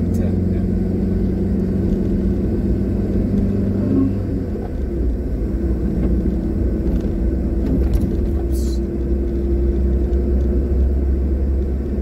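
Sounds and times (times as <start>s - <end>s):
car engine: 0.0s - 12.0s
road rumble: 0.0s - 12.0s.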